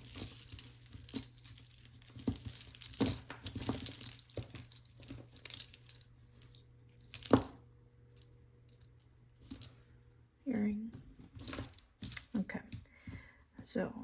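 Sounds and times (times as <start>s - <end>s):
jewelry clinking and jangling: 0.0s - 9.8s, 10.6s - 13.6s.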